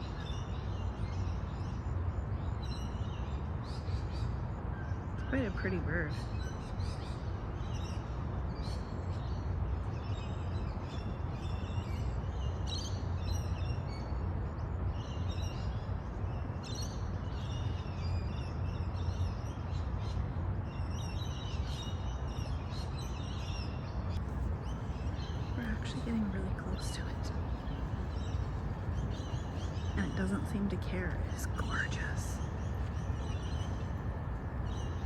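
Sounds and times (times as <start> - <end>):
low background rumble: 0.0 - 35.0
small birds chirping: 0.0 - 35.0.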